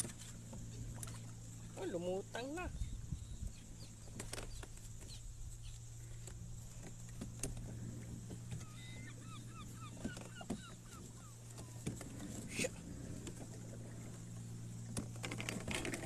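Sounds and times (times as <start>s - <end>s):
steady low hum: 0.0s - 16.0s
birds chirping: 0.2s - 6.8s, 7.4s - 14.8s.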